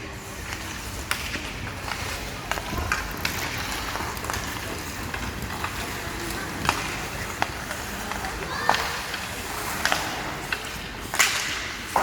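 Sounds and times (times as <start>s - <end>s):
skates scraping on ice: 0.1s - 12.0s
sticks clacking on puck: 0.3s - 12.0s.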